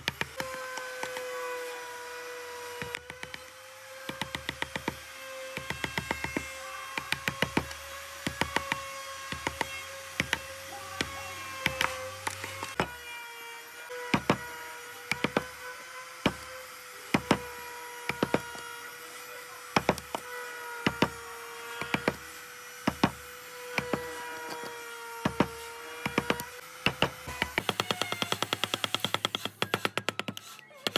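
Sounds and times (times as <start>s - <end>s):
carving tool cutting wood: 0.0s - 30.9s.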